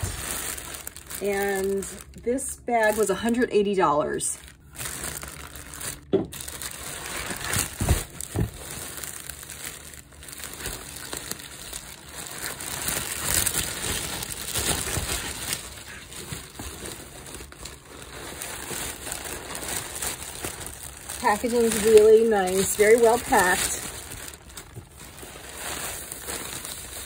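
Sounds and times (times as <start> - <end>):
plastic bag and foam crinkling: 0.0 - 27.0.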